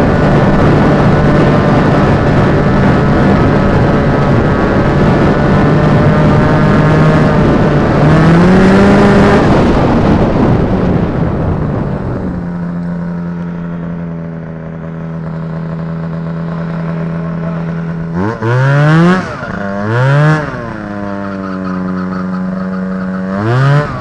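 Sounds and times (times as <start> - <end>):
snowmobile engine revving and idling: 0.0 - 24.0.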